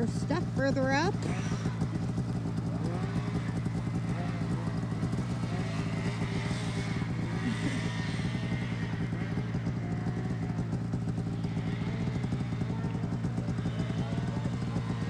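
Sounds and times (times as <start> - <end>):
snowmobile engine idling: 0.0 - 15.0.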